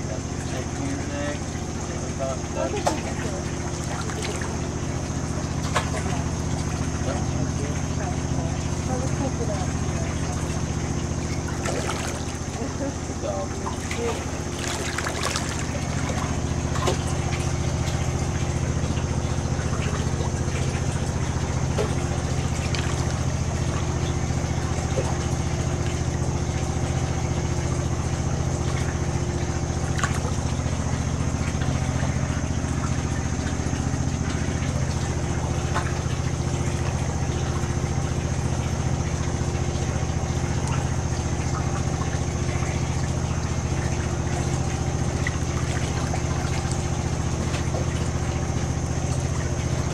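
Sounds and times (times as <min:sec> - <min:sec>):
boat machinery humming: 0:00.0 - 0:49.9.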